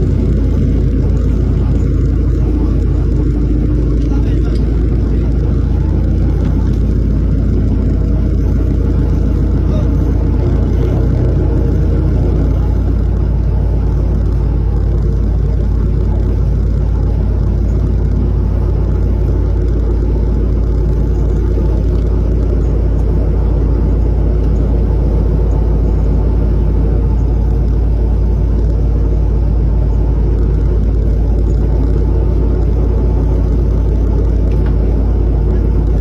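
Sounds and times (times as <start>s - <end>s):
boat engine low drone: 0.0s - 36.0s.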